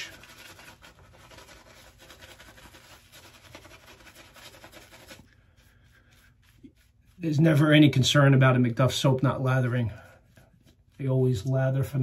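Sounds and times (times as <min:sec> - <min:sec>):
shaving brush scrubbing lather: 0:00.0 - 0:12.0.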